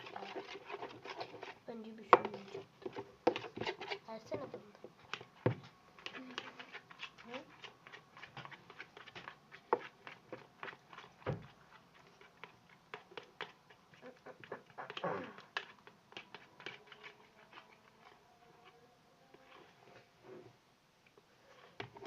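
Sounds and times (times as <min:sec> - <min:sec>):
slime squelching: 0:00.0 - 0:18.6.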